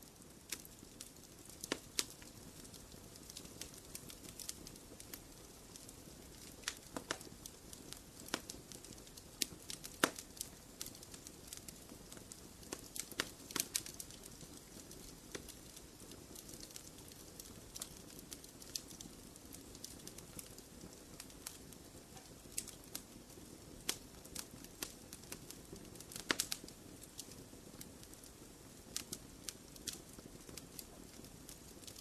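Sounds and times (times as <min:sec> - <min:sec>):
wood fire crackling in a fireplace: 0:00.0 - 0:32.0.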